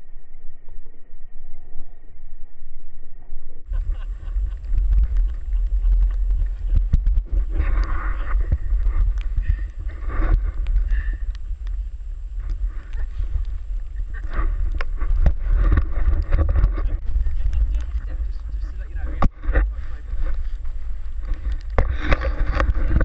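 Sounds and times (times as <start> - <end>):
wind buffeting microphone: 3.6 - 23.0
snow crunching and rustling: 3.7 - 23.0.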